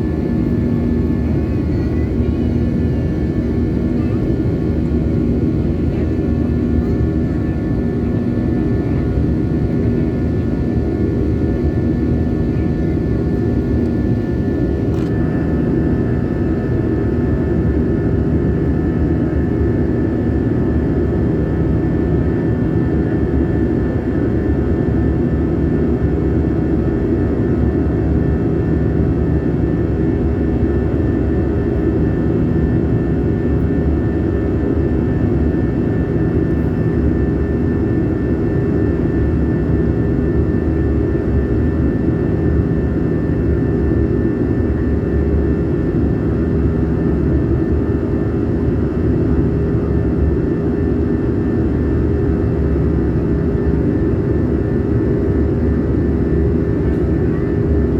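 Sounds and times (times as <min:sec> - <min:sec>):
jet engines and airflow in cabin: 0:00.0 - 0:57.9.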